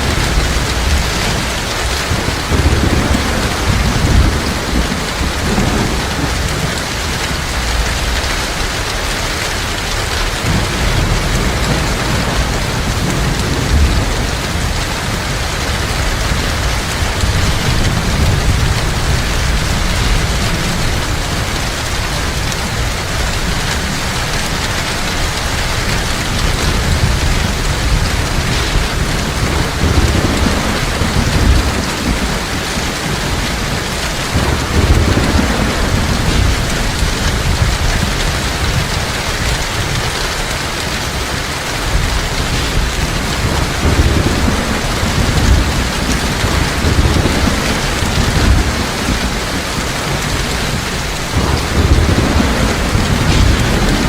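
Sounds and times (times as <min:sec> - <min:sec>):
heavy rain: 0:00.0 - 0:54.0
rolling thunder: 0:00.0 - 0:54.0.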